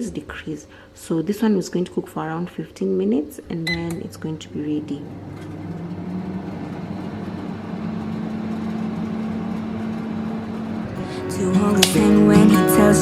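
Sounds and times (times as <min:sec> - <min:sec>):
cooker fan whirring: 0:00.0 - 0:13.0.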